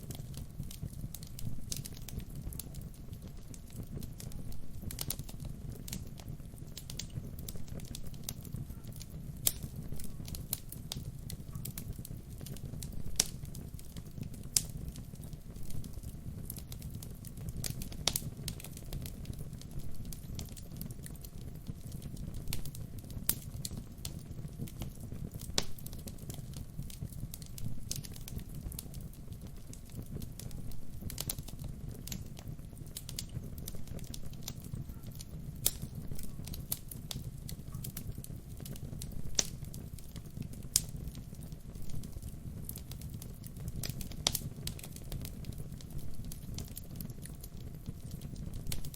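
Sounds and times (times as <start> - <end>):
crackles and pops from logs: 0.0 - 48.9
low rumble of flames: 0.0 - 48.9
wood fire burning: 0.0 - 48.9.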